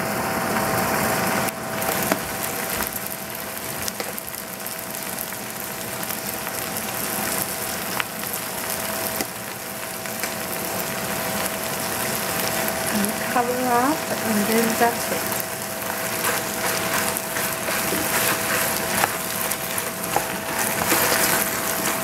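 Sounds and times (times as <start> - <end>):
vegetables sizzling in a pot: 0.0 - 22.0.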